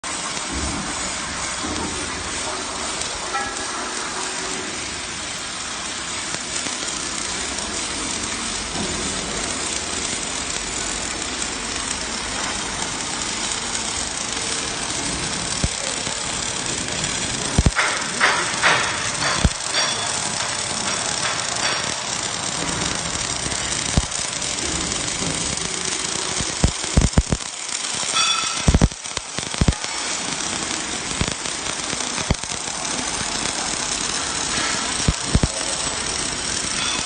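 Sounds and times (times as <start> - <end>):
welding arc crackling and hissing: 0.0 - 37.0.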